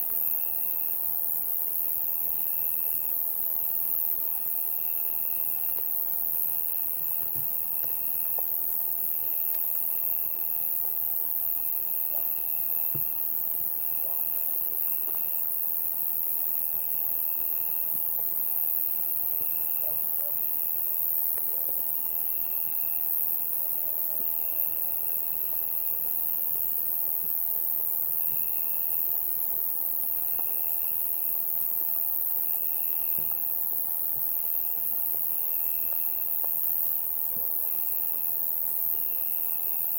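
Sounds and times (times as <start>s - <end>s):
cricket trilling: 0.0s - 39.9s
insect chorus drone: 0.0s - 39.9s.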